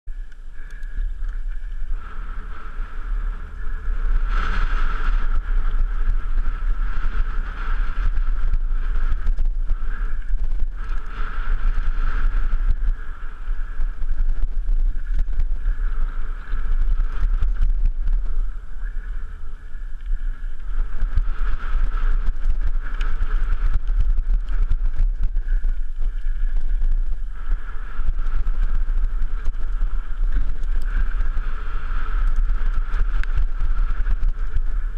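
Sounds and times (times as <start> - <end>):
steady high hum: 0.1 - 34.9
wind rumble on microphone: 0.1 - 34.9
bike rattling over stones: 0.2 - 34.9.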